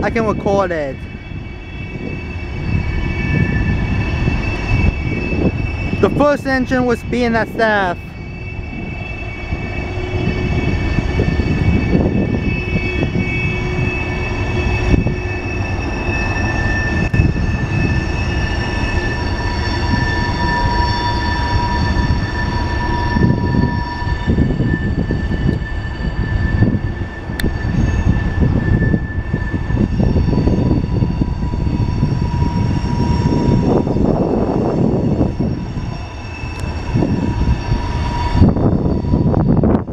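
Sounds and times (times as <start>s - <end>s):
freight train rumbling: 0.0s - 39.9s
high-pitched wheel squeal: 0.0s - 39.9s.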